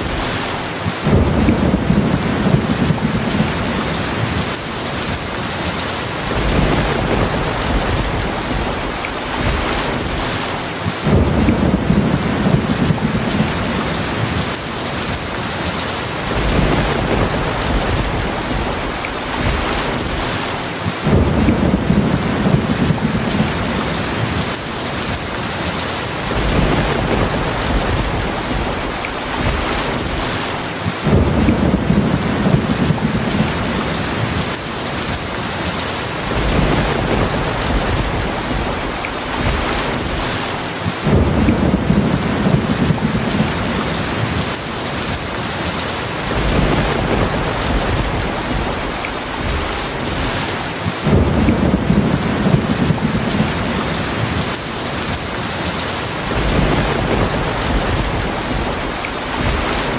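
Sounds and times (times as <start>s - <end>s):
rolling thunder: 0.0s - 45.6s, 46.2s - 55.6s, 56.2s - 59.9s
heavy rain falling: 0.0s - 59.9s.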